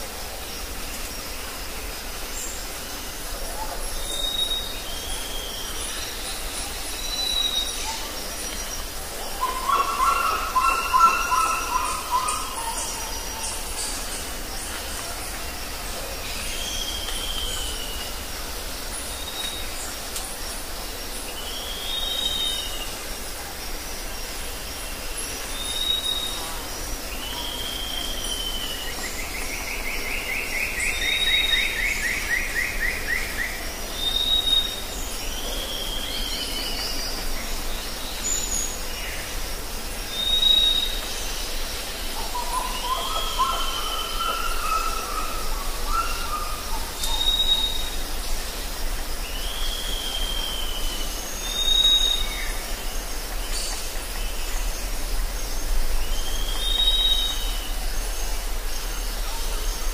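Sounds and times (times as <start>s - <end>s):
steady high hiss: 0.0s - 59.9s.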